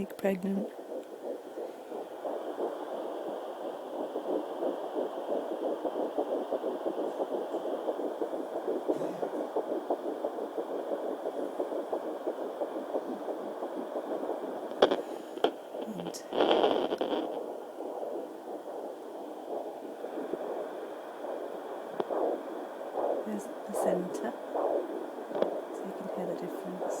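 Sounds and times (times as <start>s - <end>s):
faint high hum: 0.0s - 27.0s.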